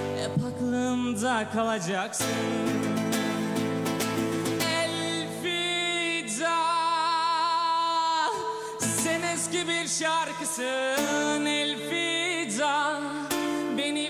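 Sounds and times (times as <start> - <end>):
acoustic guitar accompaniment: 0.0 - 14.0.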